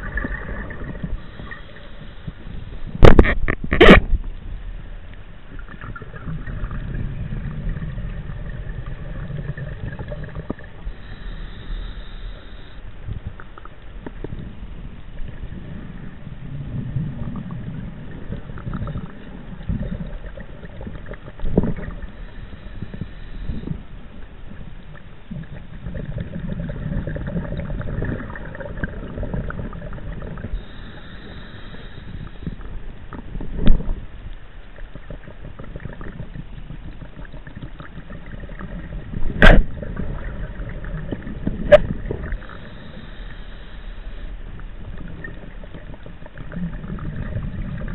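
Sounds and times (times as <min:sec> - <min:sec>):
muffled underwater breath bubbling: 0:00.0 - 0:04.0, 0:05.8 - 0:13.0, 0:15.5 - 0:24.0, 0:25.3 - 0:32.8, 0:34.9 - 0:47.9.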